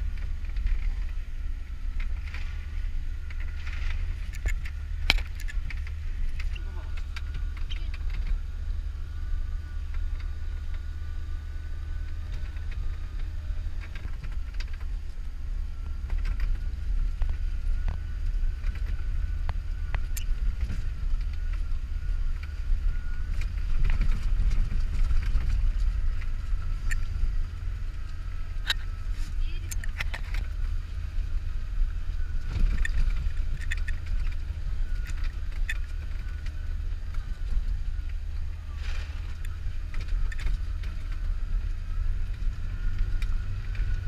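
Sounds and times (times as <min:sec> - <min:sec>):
faint steady whine: 0:00.0 - 0:44.0
vehicle engine rumble: 0:00.0 - 0:44.0.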